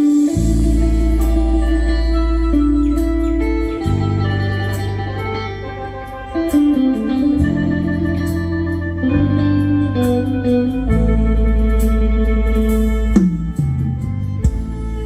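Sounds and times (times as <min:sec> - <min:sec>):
loud music with deep bass: 0:00.0 - 0:15.0.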